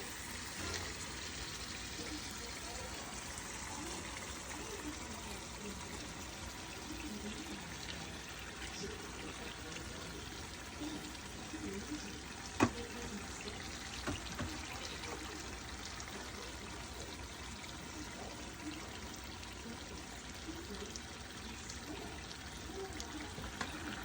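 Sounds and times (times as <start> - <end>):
greens sizzling in oil: 0.0 - 24.0.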